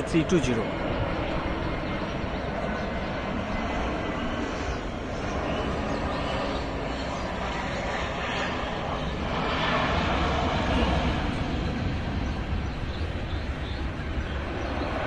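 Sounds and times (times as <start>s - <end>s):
jet engine rushing: 0.0s - 15.0s.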